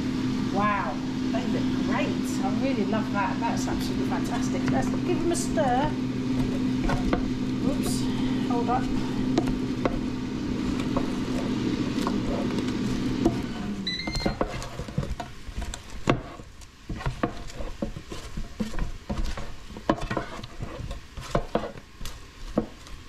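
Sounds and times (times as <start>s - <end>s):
appliance fan hum: 0.0s - 23.0s
spatula scraping potatoes in basket: 1.8s - 23.0s.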